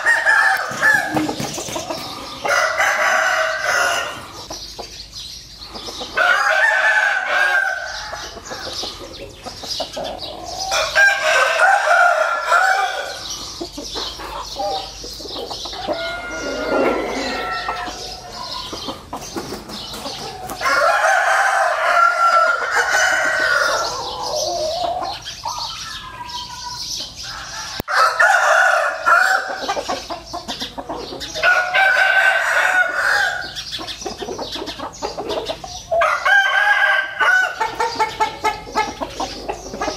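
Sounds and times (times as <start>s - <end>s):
roosters crowing: 0.0s - 39.9s.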